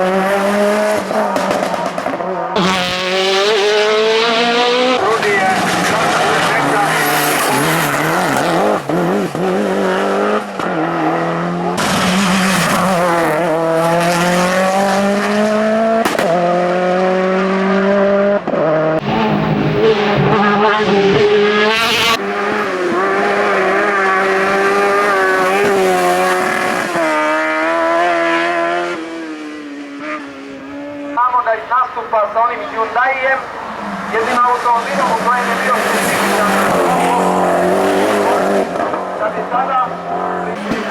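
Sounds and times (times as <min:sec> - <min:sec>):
race car engine at full throttle: 0:00.0 - 0:40.9.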